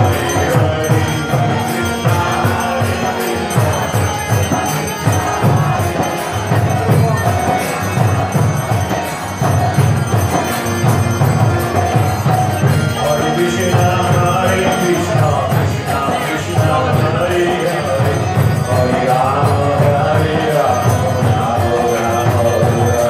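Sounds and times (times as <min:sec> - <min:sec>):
jingling metal percussion: 0:00.0 - 0:23.0
steady drum beat: 0:00.0 - 0:23.0
sustained melodic tones: 0:00.0 - 0:23.0.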